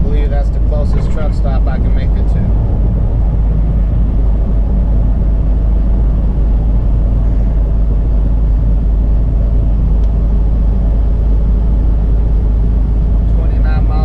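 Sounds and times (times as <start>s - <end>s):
truck diesel engine rumble: 0.0s - 14.0s.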